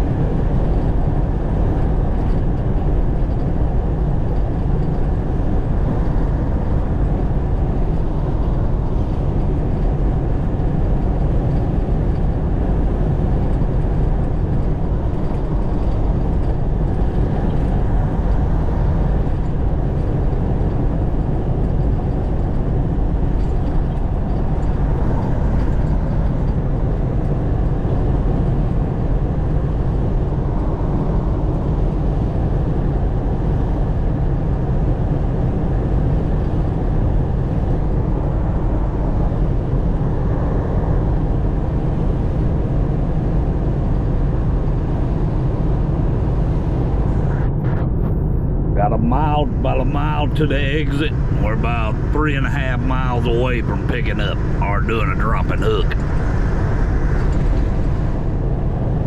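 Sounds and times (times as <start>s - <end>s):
diesel engine drone: 0.0s - 59.0s
road noise: 0.0s - 59.0s.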